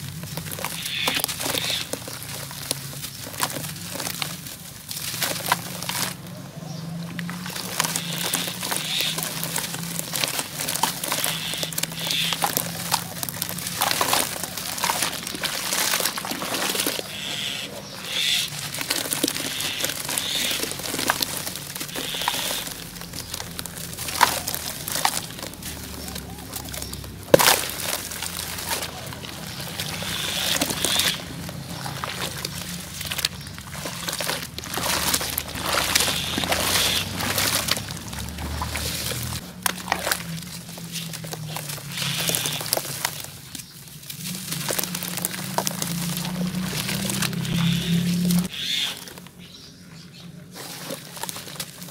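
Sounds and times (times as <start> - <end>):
dirt crumbling into water: 0.0 - 6.3, 6.9 - 49.4
wet mud sloshing: 0.0 - 49.4, 50.2 - 51.9.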